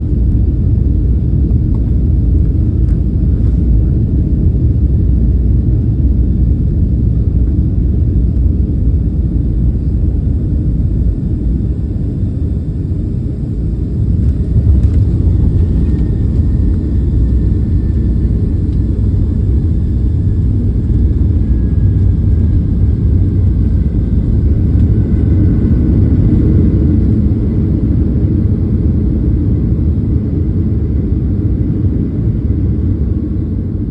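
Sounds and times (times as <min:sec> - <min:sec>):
airplane cabin rumble: 0:00.0 - 0:33.9.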